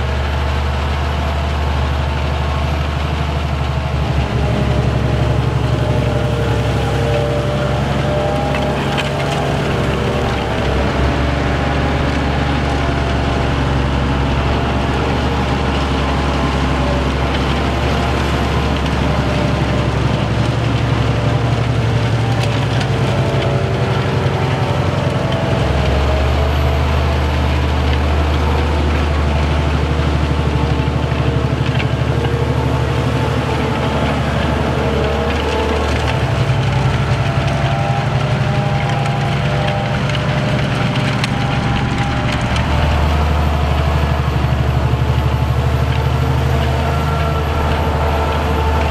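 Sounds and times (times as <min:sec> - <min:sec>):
harrow discs cutting soil: 0:00.0 - 0:48.9
tractor diesel engine under load: 0:00.0 - 0:48.9.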